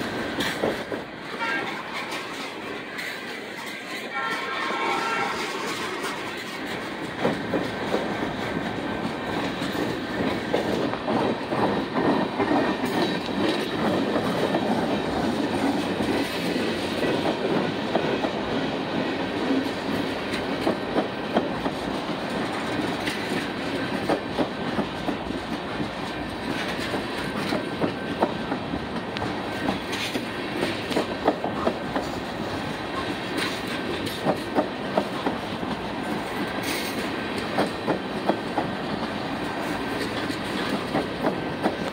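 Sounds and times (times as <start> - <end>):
steel wheels rumbling on rail: 0.0 - 41.9
wheels clacking over rail joints: 0.0 - 41.9.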